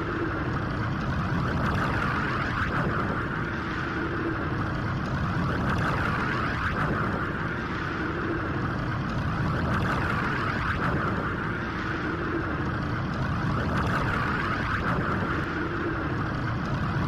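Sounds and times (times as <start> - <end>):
crackling energy hum: 0.0 - 17.0.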